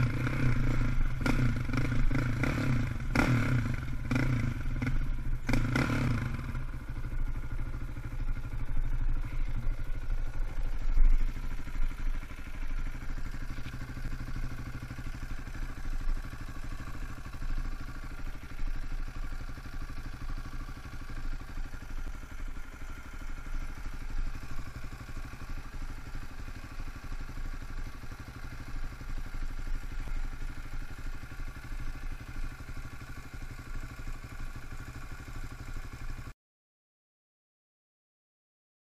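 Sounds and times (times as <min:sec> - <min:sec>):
quad engine idling: 0:00.0 - 0:36.4.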